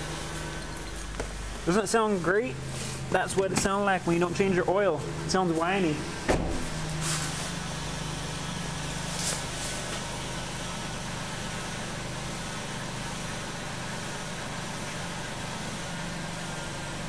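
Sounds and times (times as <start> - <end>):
car engine idling with whine: 0.0 - 17.0.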